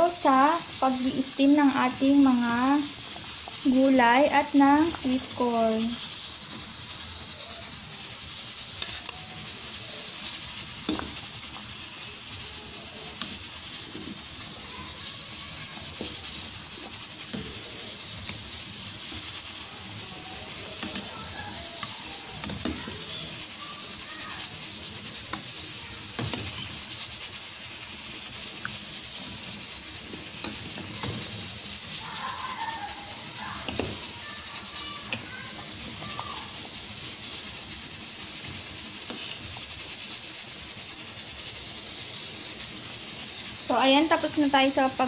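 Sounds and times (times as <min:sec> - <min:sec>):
water boiling in a pot: 0:00.0 - 0:45.0.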